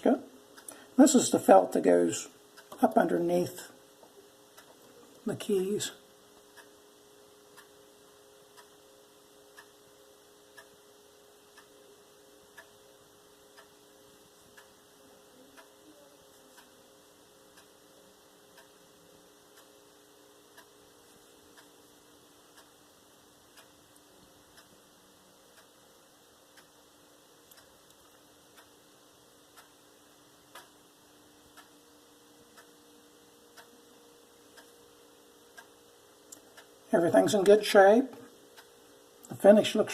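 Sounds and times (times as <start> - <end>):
clock ticking faintly: 0.0 - 39.9
low steady hum: 0.0 - 39.9.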